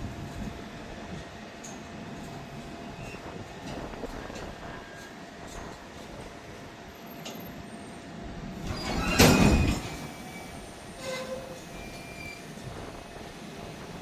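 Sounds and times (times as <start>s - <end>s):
railway noise: 0.0s - 14.0s.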